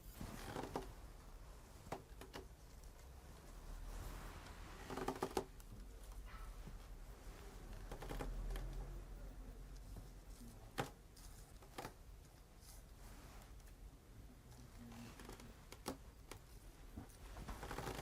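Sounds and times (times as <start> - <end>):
faint low hum: 0.0 - 17.7.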